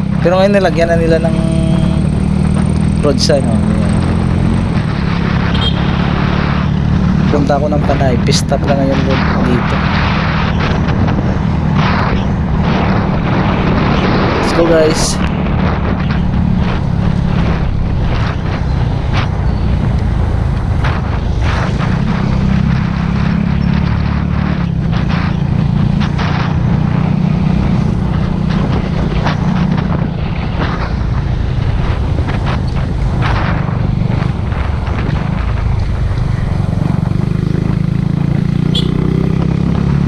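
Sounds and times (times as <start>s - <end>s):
motorcycle engine droning: 0.0s - 7.4s, 8.9s - 40.0s
wind and road noise: 0.0s - 40.0s.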